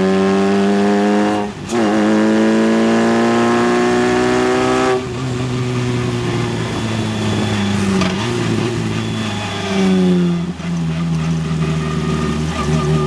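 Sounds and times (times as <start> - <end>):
race car engine shifting gears: 0.1 - 13.0.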